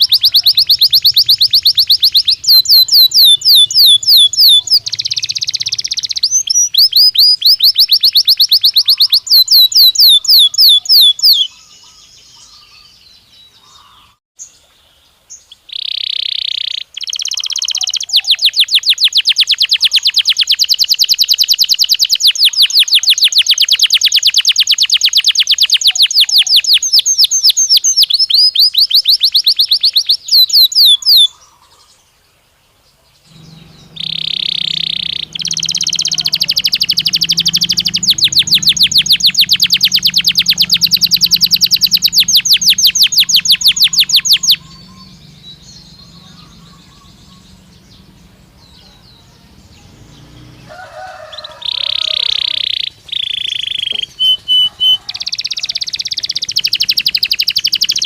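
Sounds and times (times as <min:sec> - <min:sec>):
canary singing: 0:00.0 - 0:14.6, 0:15.3 - 0:31.9, 0:33.3 - 0:58.0.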